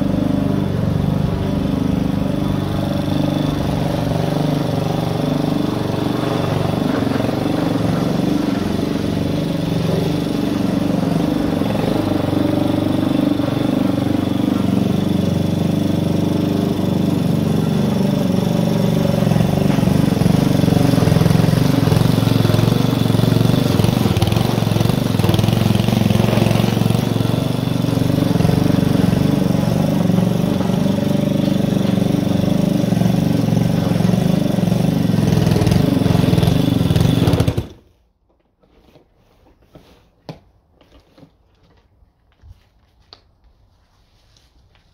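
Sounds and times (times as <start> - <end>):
lawn mower engine running: 0.0 - 38.0.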